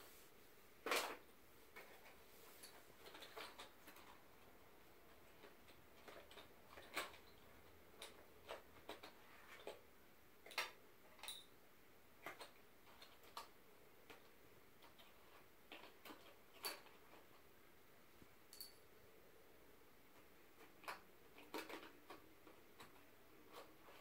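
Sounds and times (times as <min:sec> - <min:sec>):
wooden pencils clicking in box: 0:01.0 - 0:11.4, 0:12.2 - 0:17.5, 0:20.1 - 0:24.0.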